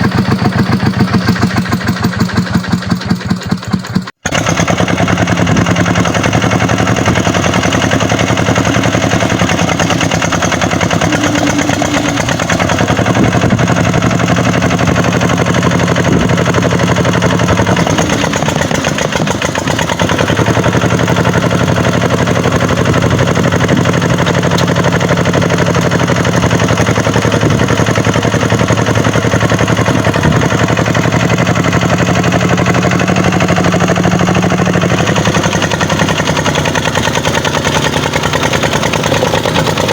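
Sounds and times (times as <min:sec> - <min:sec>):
tractor diesel engine clatter: 0:00.0 - 0:39.9.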